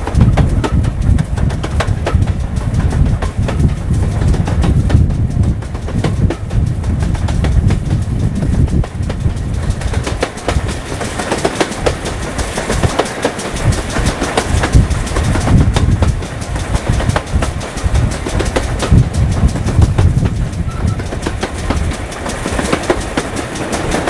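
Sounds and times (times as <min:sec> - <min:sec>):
train wheels clicking over rail joints: 0:00.0 - 0:24.0
wind rumble on microphone: 0:00.0 - 0:24.0.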